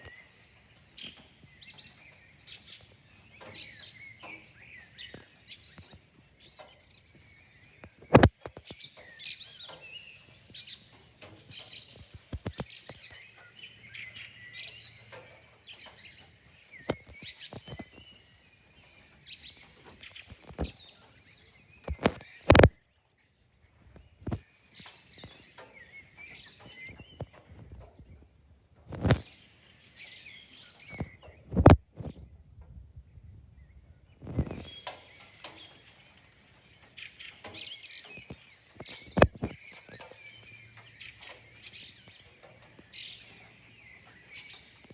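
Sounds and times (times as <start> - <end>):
birds singing: 0.0 - 44.9.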